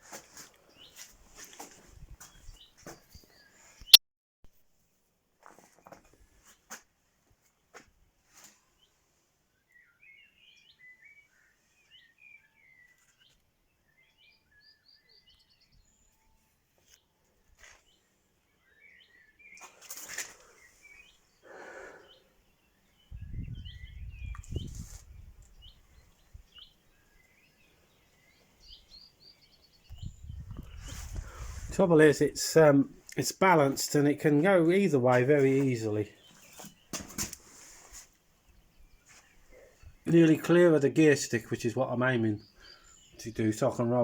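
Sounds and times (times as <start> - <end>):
small birds chirping: 0.1 - 4.0, 8.6 - 44.0.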